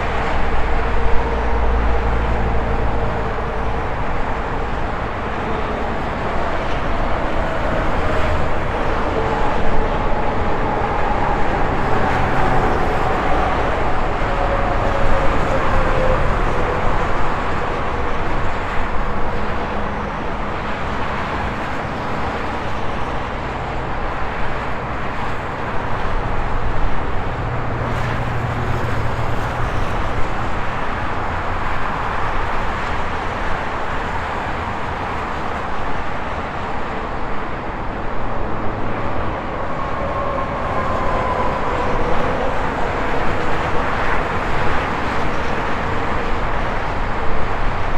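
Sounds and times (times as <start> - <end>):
passing vehicle whine: 0.0 - 47.9.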